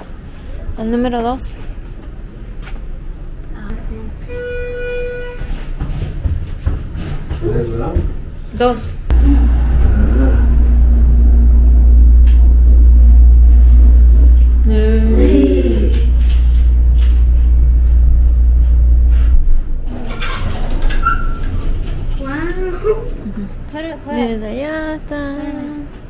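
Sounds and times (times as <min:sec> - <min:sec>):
elevator low rumble: 0:00.0 - 0:26.0
elevator steady hum: 0:00.0 - 0:26.0.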